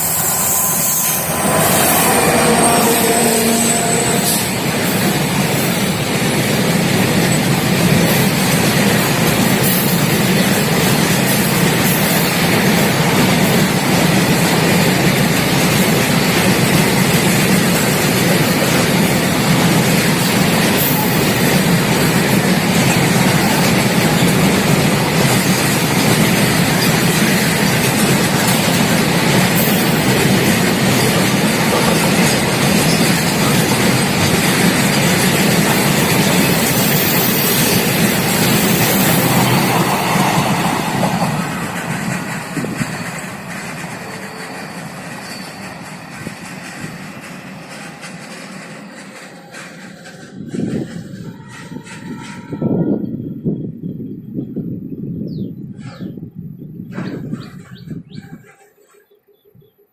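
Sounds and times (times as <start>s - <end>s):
freight train wheels on rails: 0.0s - 59.2s.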